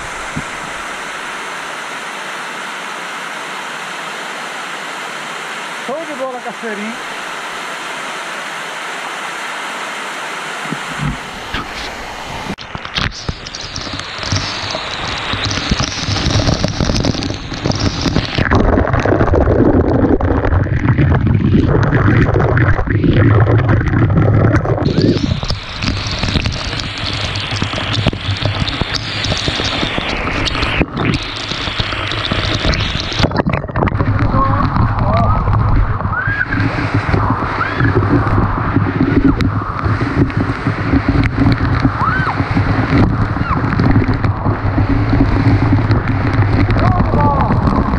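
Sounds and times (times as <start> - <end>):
water buffeting the camera: 0.0 - 47.9
waterfall rushing: 0.0 - 47.9.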